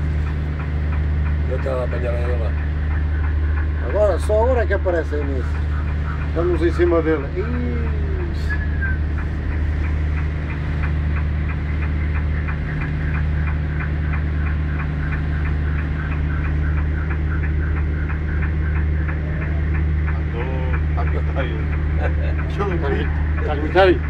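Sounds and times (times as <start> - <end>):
boat engine humming: 0.0 - 24.0
light regular ticking: 0.0 - 24.0.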